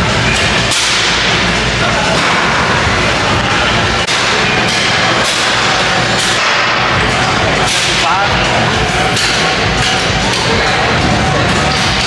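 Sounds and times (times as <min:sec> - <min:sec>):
loud background music: 0:00.0 - 0:12.0.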